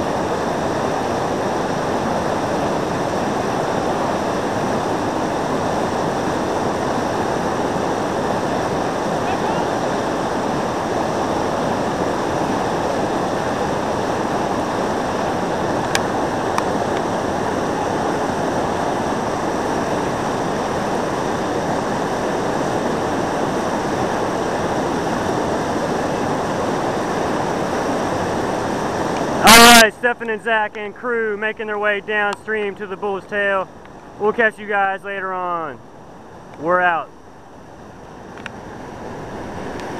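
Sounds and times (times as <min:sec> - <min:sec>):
whitewater rapid rushing: 0:00.0 - 0:39.9.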